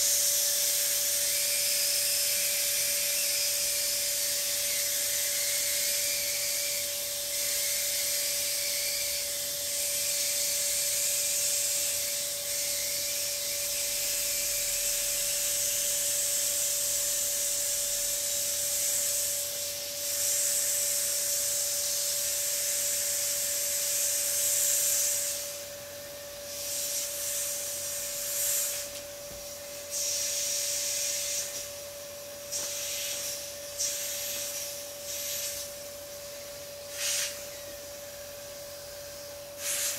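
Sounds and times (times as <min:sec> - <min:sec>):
air hissing from inflatable valve: 0:00.0 - 0:39.9.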